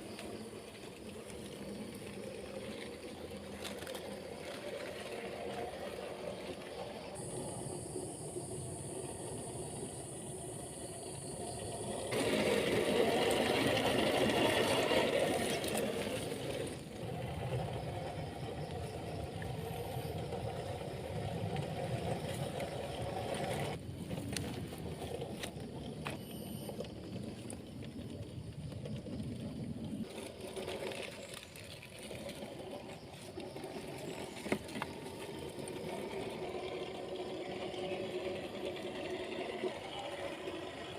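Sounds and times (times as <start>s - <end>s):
electric motor and gears whirring: 0.0s - 40.9s.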